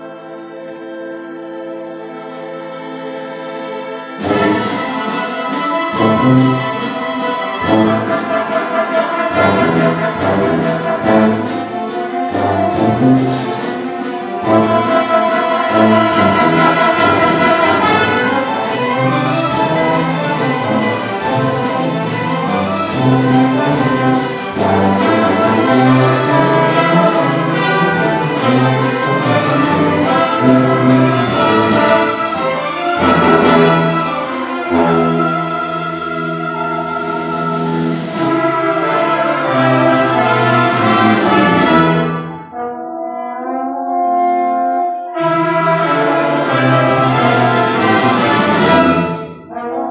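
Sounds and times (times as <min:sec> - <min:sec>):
brass: 0:00.0 - 0:49.9
cellos: 0:00.0 - 0:49.9
violins: 0:00.0 - 0:49.9.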